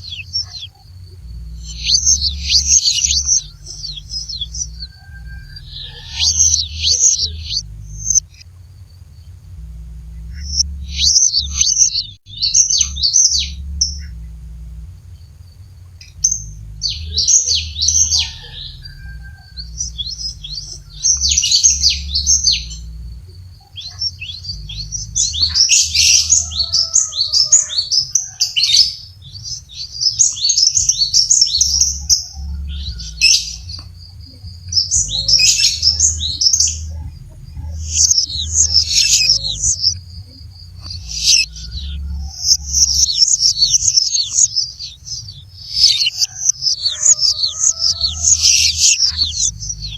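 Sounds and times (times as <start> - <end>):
bird singing rapid high chirps: 0.0 - 49.9.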